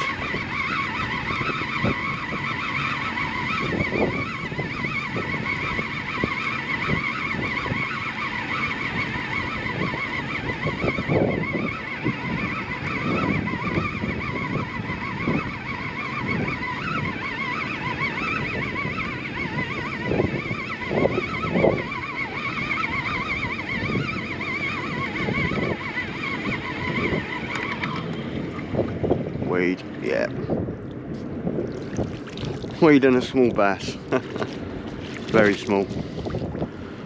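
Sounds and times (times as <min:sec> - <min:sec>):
fishing reel whining: 0:00.0 - 0:37.0
water noise: 0:00.0 - 0:37.0
wind: 0:00.0 - 0:37.0.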